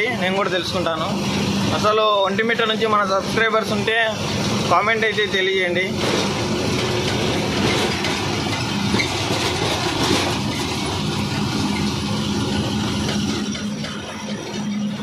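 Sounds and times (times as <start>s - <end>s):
road and cab noise: 0.0s - 15.0s
truck engine drone: 0.0s - 15.0s.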